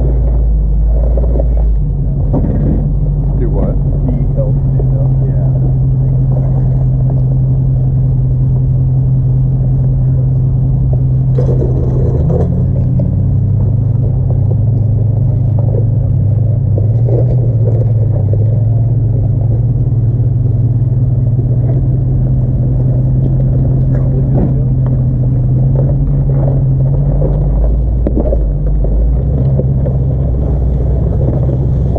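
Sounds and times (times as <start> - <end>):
car engine running: 0.0 - 31.9
rattling crunch: 0.0 - 31.9.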